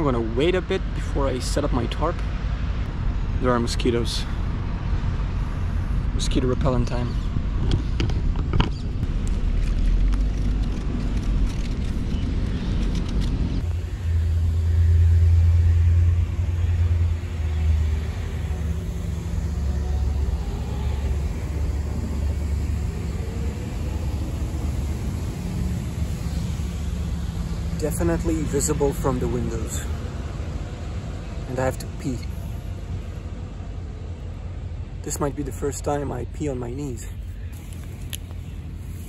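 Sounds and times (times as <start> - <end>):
road traffic rumble: 0.0 - 39.0
vehicle engine: 0.0 - 39.0.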